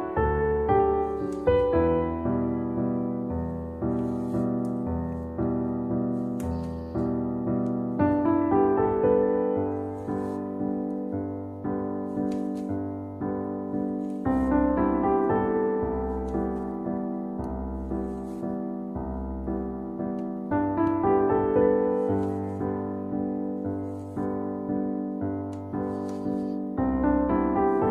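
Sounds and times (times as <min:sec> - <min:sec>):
soft piano music: 0:00.0 - 0:27.9.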